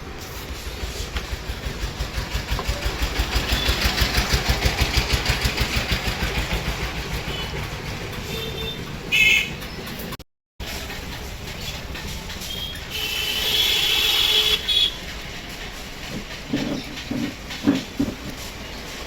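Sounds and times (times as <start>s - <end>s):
small petrol engine pulsing: 0.6s - 19.0s.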